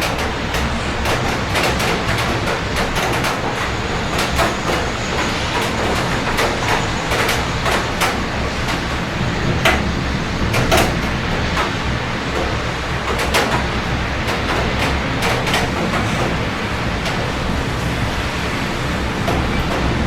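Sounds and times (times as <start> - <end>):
city traffic rumble: 0.0 - 20.0
heavy rain: 0.0 - 20.0
raindrops tapping: 0.0 - 20.0.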